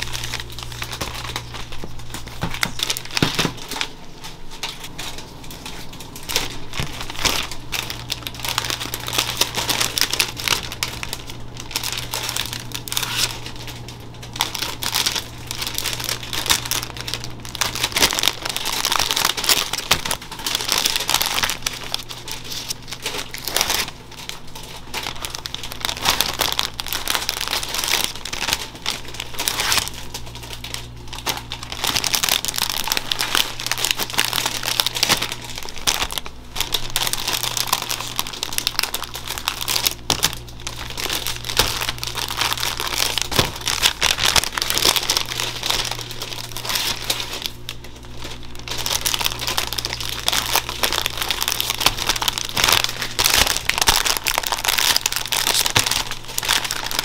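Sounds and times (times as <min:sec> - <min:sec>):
plastic bags crinkling: 0:00.0 - 0:57.0.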